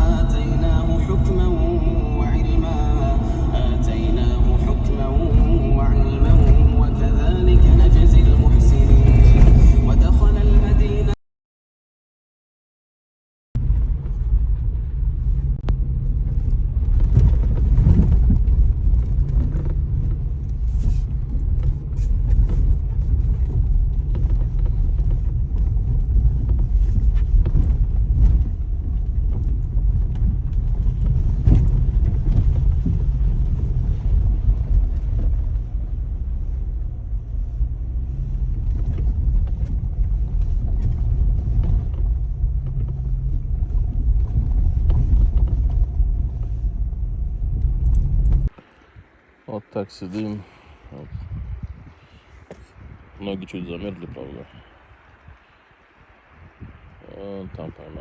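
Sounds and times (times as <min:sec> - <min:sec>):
wind buffeting microphone: 0:00.0 - 0:11.2, 0:13.6 - 0:49.4, 0:50.2 - 0:58.0.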